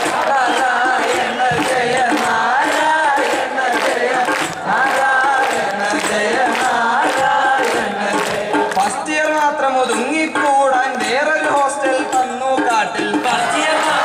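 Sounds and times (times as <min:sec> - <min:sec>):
men singing in chant-like style: 0:00.0 - 0:14.0
steady percussion beat: 0:00.0 - 0:14.0.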